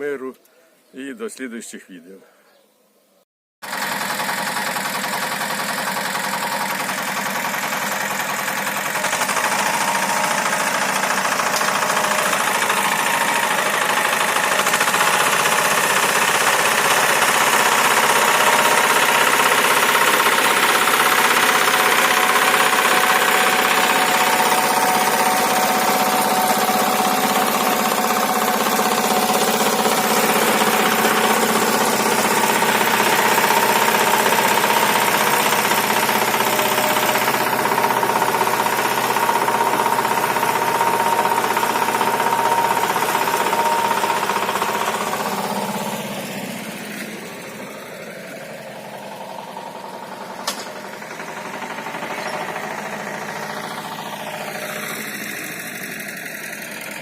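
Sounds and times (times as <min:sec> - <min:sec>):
tiller engine running: 0:03.6 - 0:57.0.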